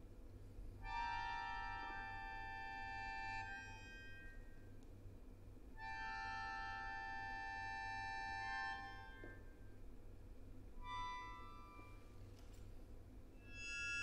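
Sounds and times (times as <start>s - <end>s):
faint low hum: 0.0s - 14.0s
accordion sustained chords: 0.7s - 4.9s, 5.7s - 13.3s.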